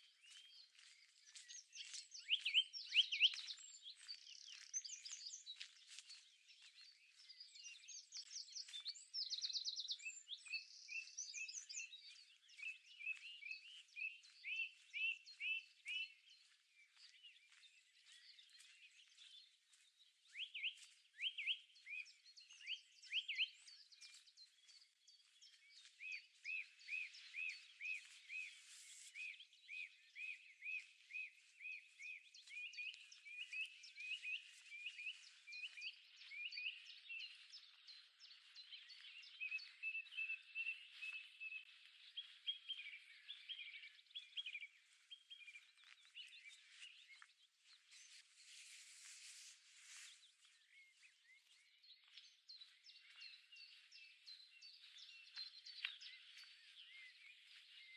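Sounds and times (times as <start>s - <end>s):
songbirds singing and calling: 0.0s - 57.9s.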